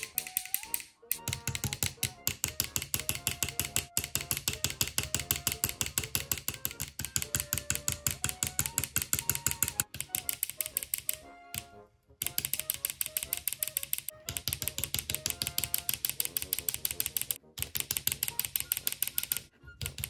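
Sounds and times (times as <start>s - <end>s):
rapid hammering clicks: 0.0s - 20.0s.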